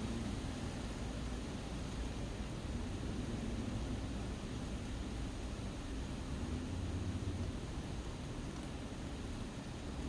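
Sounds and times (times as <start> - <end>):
rain hissing: 0.0 - 10.0
wind rumbling: 0.0 - 10.0.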